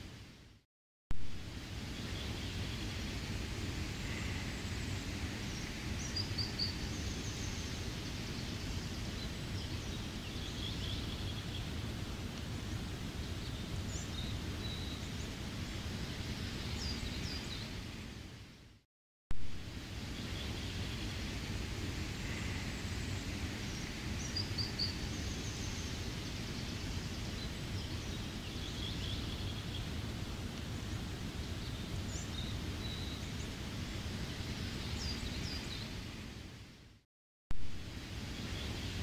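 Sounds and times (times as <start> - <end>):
steady rain: 1.2 - 18.5, 19.4 - 36.9, 37.6 - 39.0
forest birds chirping: 1.4 - 18.6, 19.6 - 36.6, 37.9 - 39.0.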